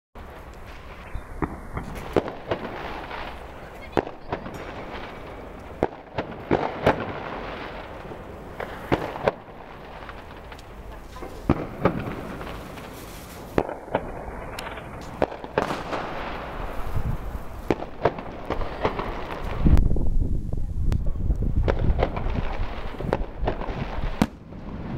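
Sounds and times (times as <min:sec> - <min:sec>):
firecrackers banging: 0:00.2 - 0:20.2, 0:21.4 - 0:24.9
distant fireworks din: 0:00.2 - 0:24.9.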